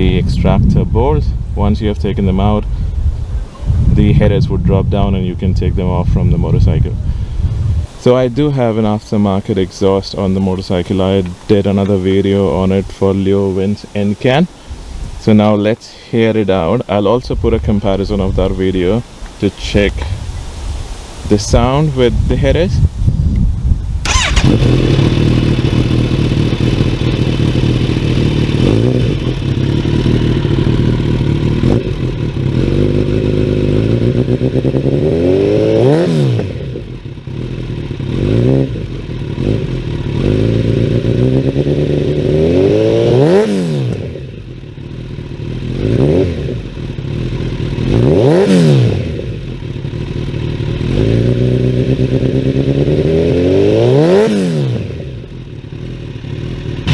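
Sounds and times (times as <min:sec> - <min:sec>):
motorcycle engine idling and revving: 0:00.0 - 0:13.8, 0:21.6 - 0:56.9.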